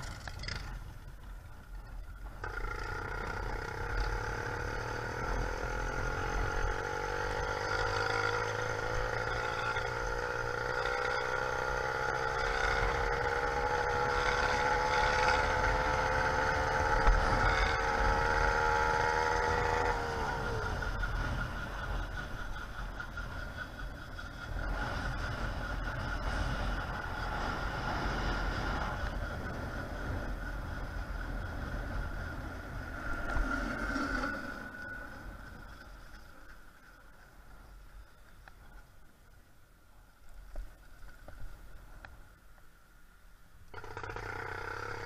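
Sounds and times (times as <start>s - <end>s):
two-stroke engine running: 0.0s - 36.8s, 43.7s - 45.0s.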